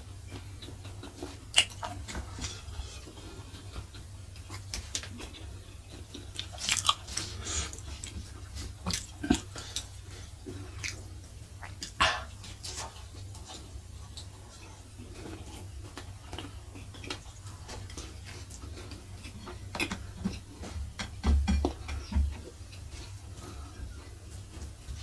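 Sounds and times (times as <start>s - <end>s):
chewing and mouth clicks: 0.2s - 25.0s.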